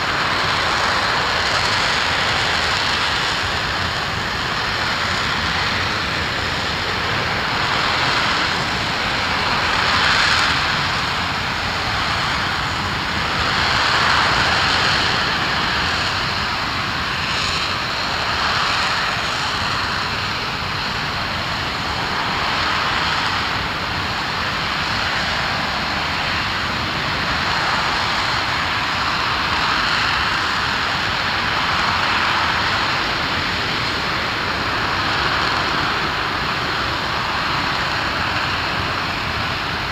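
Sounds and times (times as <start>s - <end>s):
rocket engine roaring: 0.0s - 39.9s.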